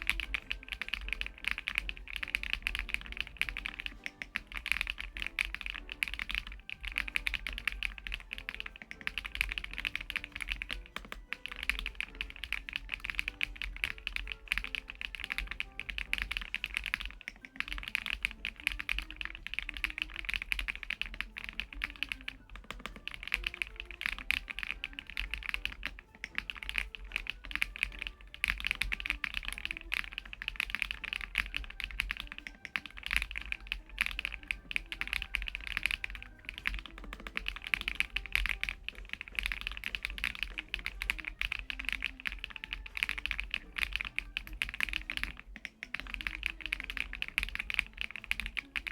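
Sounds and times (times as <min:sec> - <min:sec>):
fast typing on mechanical keyboard: 0:00.0 - 0:48.9
soft background music: 0:00.0 - 0:48.9.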